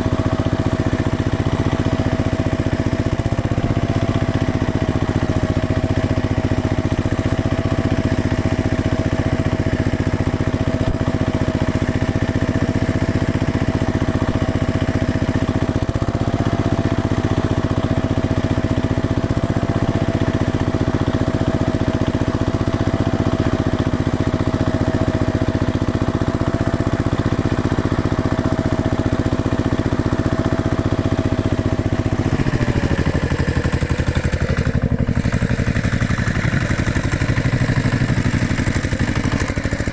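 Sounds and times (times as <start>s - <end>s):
heavy construction machine engine: 0.0s - 39.9s.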